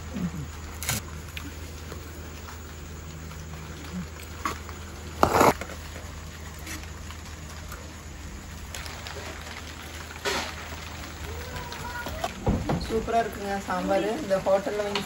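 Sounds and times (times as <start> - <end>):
light rain pattering: 0.0 - 15.0.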